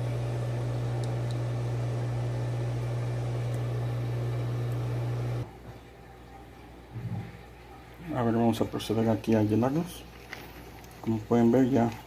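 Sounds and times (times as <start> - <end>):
low hum with hiss: 0.0 - 12.0.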